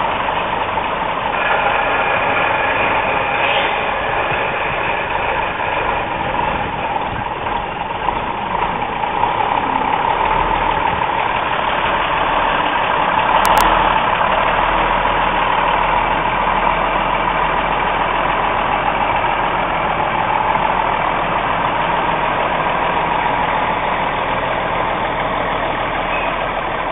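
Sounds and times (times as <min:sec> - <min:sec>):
truck diesel engine running: 0:00.0 - 0:26.9.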